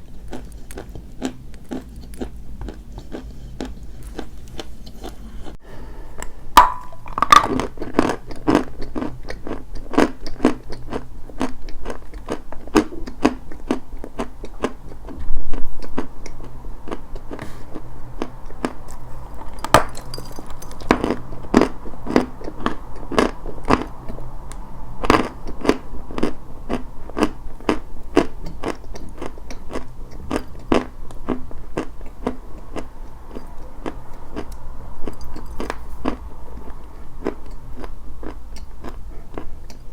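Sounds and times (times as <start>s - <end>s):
chalk being chewed: 0.0s - 5.6s, 7.6s - 39.9s.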